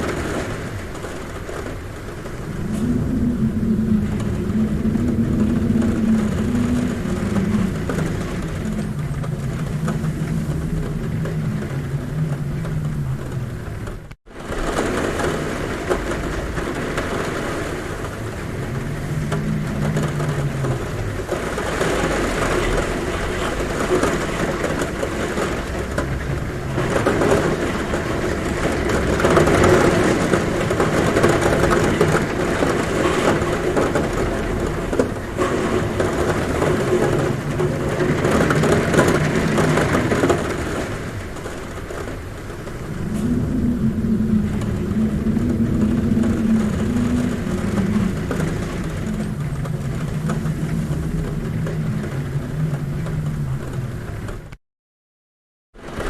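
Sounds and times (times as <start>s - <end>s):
heavy rain drumming on roof: 0.0s - 54.6s, 55.7s - 56.0s
wind humming at window: 0.0s - 54.6s.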